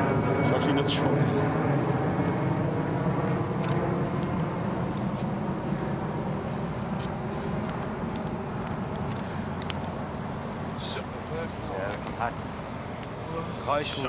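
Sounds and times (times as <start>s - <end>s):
campfire crackling: 0.0s - 14.0s
low outdoor rumble: 0.0s - 14.0s.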